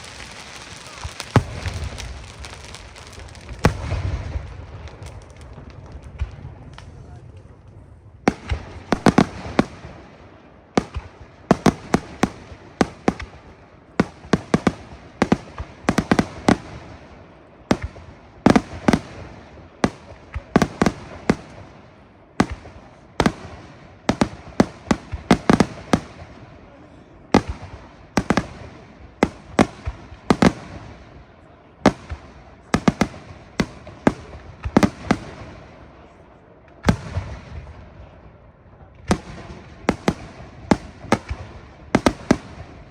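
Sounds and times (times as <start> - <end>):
fireworks bursting with echo: 0.0 - 42.9.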